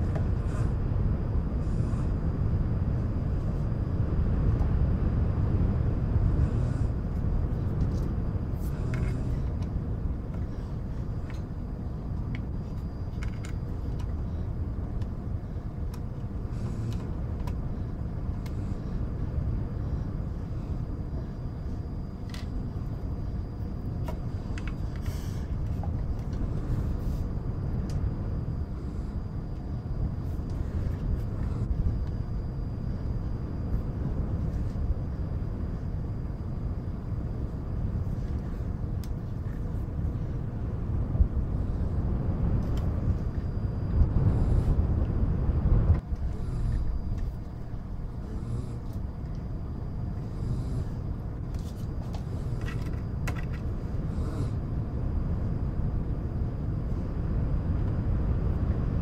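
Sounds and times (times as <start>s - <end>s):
low rumbling wind: 0.0s - 59.0s.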